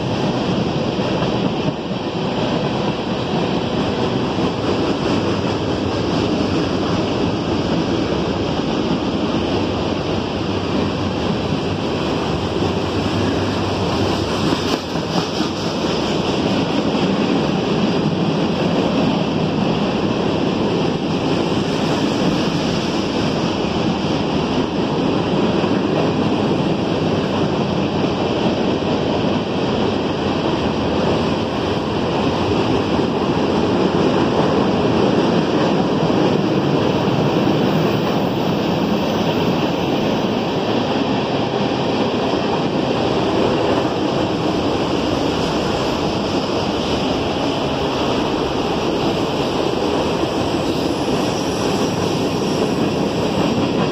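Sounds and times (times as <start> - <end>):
freight train wheels on rail: 0.0 - 53.9.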